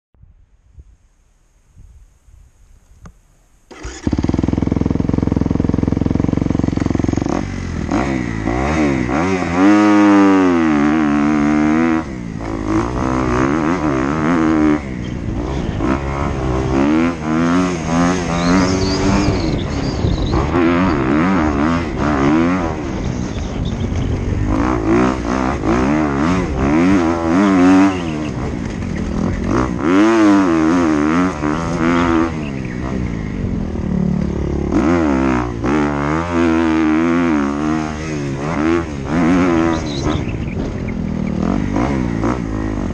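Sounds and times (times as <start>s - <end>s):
dirt bike engine revving: 3.7s - 42.9s.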